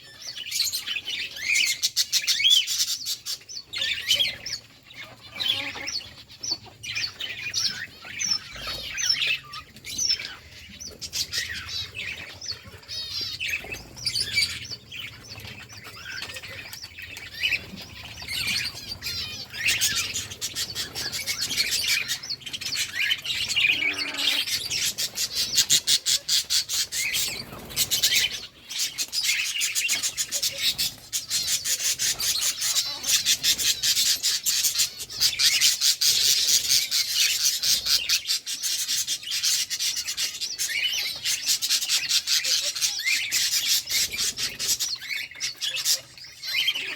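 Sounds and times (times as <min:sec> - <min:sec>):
budgerigars chirping and chattering: 0:00.0 - 0:46.9.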